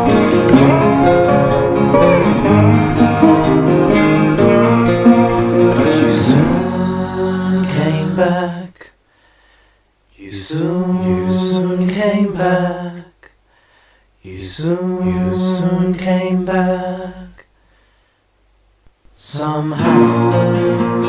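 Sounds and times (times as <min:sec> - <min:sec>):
person singing unaccompanied: 0:00.0 - 0:09.0, 0:10.2 - 0:13.2, 0:14.2 - 0:17.4, 0:19.2 - 0:21.0.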